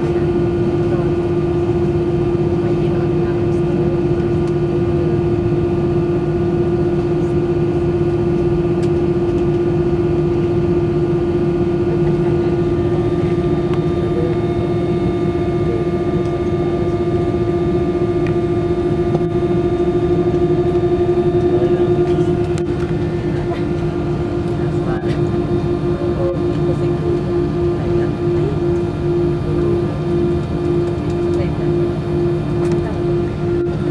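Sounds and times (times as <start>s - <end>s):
airliner cabin drone: 0.0s - 33.9s.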